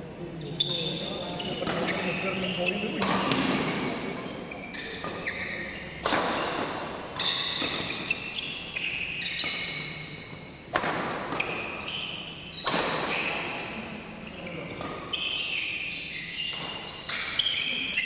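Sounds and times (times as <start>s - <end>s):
shoes squeaking on court floor: 0.2s - 18.0s
racket hitting shuttlecock: 1.5s - 13.9s, 14.7s - 15.6s, 16.4s - 18.0s.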